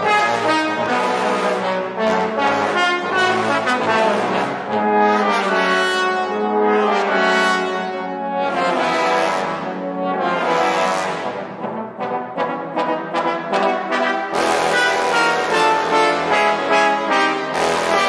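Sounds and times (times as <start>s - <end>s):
trombone ensemble playing chords: 0.0s - 18.0s.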